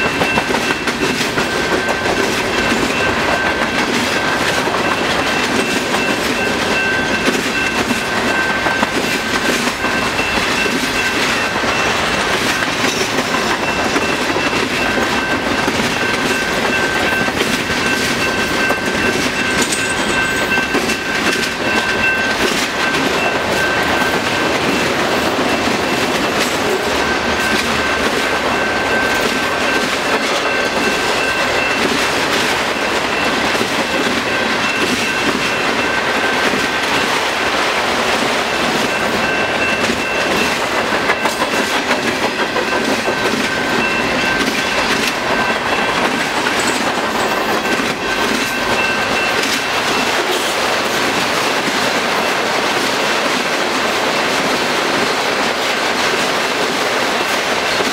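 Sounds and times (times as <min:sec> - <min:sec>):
high ringing tone: 0:00.0 - 0:37.6, 0:38.4 - 0:50.6
freight train rumbling on rails: 0:00.0 - 0:57.9.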